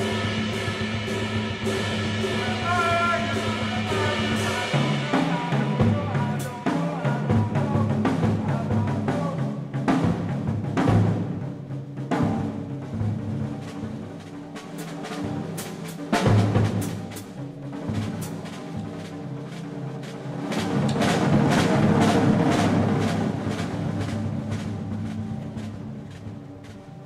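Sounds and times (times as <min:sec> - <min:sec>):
drums and cymbals: 0:00.0 - 0:27.0
jazz band holding notes: 0:00.0 - 0:27.0.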